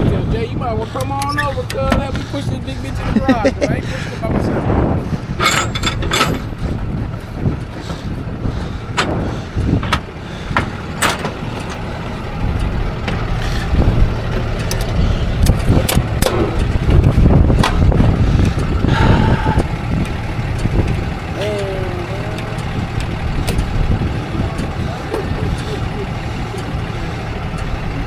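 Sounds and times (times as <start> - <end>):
truck engine idling: 0.0 - 28.0
sharp knocks and clanks: 0.9 - 2.8, 5.4 - 13.5, 14.3 - 27.6.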